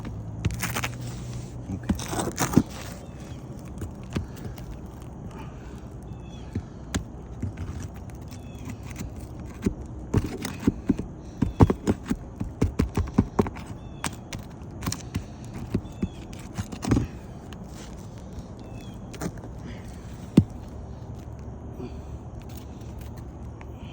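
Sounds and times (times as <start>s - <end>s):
hand tools knocking and scraping: 0.0s - 20.7s.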